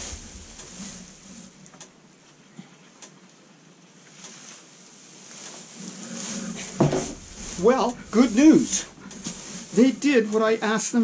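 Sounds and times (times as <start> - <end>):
rustling and scraping of straw: 0.0 - 2.4, 4.0 - 11.0.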